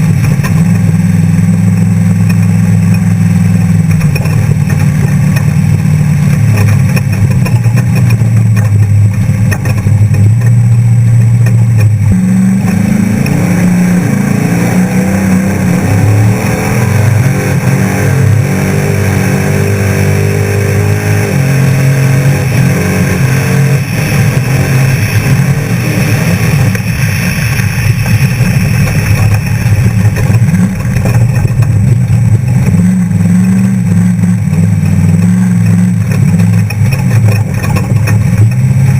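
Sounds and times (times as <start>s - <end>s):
constant noisy rush: 0.0s - 38.9s
truck engine revving at speed: 0.0s - 38.9s.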